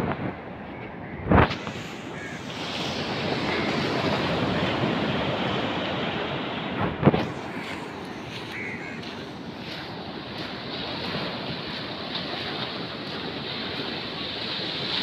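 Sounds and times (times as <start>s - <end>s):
sea surf washing onto beach: 1.3s - 15.0s.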